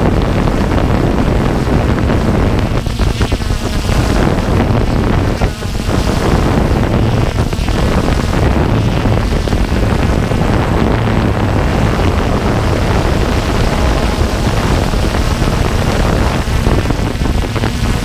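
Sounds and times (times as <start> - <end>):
drone rotor noise: 0.0 - 18.0
wind buffeting microphone: 0.0 - 18.0.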